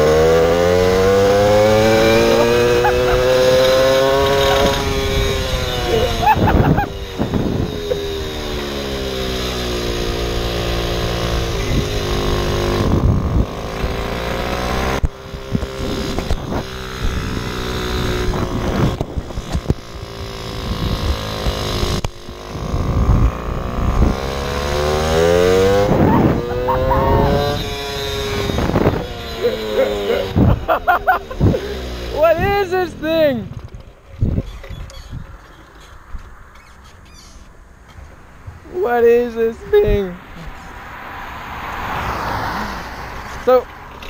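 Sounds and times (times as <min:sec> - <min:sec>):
two-stroke moped engine running: 0:00.0 - 0:40.1.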